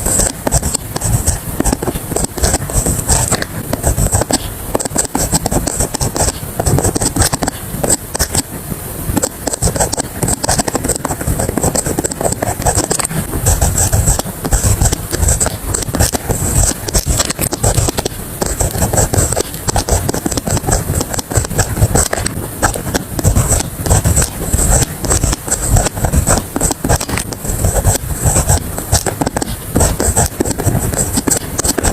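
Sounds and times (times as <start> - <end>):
pen scratching on paper: 0.0 - 31.9.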